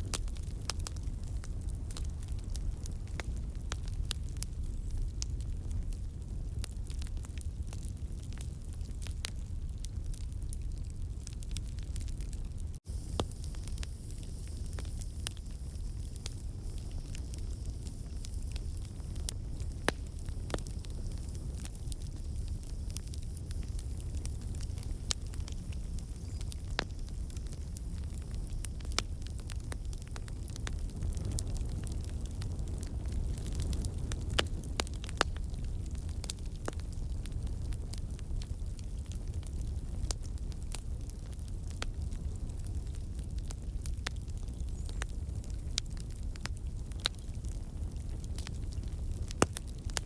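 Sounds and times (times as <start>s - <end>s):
fire rumbling: 0.0s - 50.0s
wood popping and crackling: 6.7s - 50.0s.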